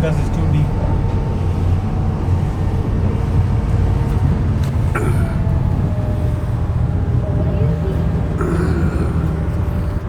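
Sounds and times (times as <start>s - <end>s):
speedboat engine running: 0.4s - 10.0s.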